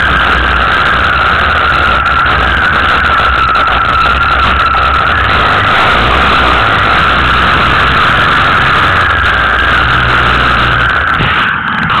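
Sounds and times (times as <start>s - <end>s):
racing car engine running hard: 0.0s - 12.0s.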